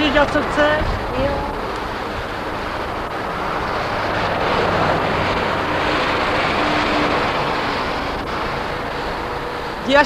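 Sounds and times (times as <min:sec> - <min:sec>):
vehicle passing: 0:00.0 - 0:10.0.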